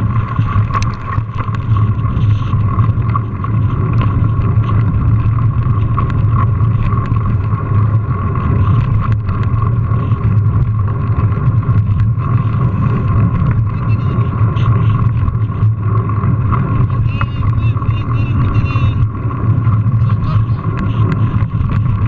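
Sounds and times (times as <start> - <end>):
bike tyre rumble: 0.0 - 22.0
small clicks and rattles: 0.0 - 22.0
wind: 0.0 - 22.0.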